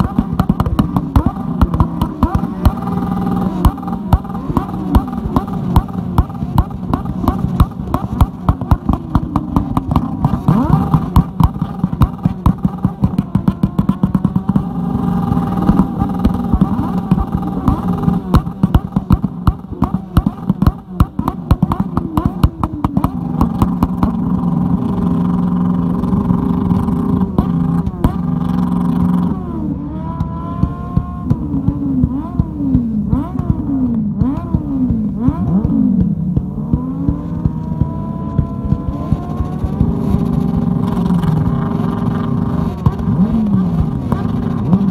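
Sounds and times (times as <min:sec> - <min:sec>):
exhaust pops and bangs: 0:00.0 - 0:44.9
motorcycle engines revving: 0:00.0 - 0:44.9.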